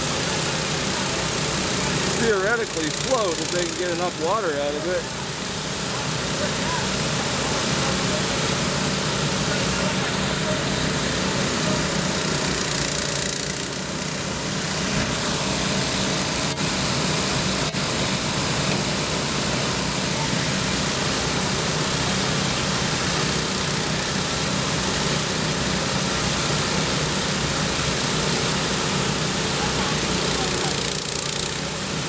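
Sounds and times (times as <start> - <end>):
water pumps engine drone: 0.0 - 32.0.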